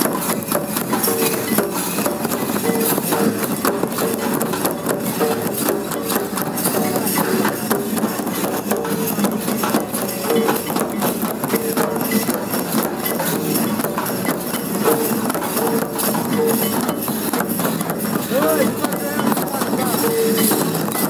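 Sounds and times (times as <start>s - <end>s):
folk drums fast rhythm: 0.0s - 21.0s.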